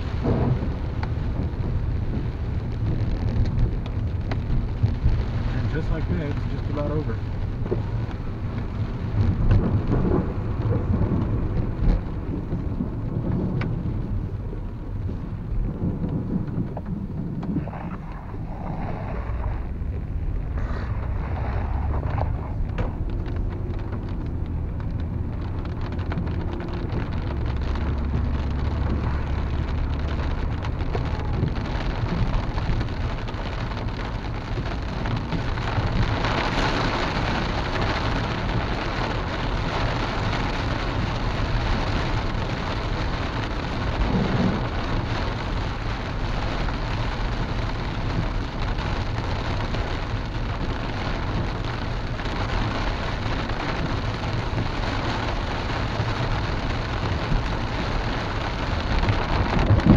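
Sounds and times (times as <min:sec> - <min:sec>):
engine and tyre hum: 0:00.0 - 0:59.9
rain on car roof: 0:00.0 - 0:59.9.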